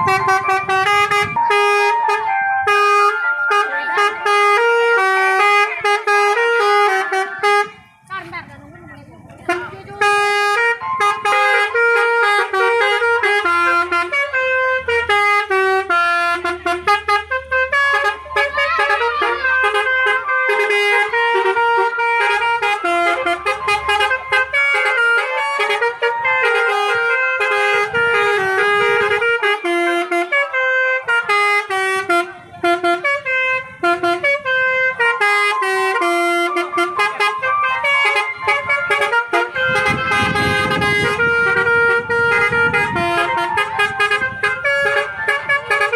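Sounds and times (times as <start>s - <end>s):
musical bus horn melody: 0.0s - 8.3s, 9.4s - 45.9s.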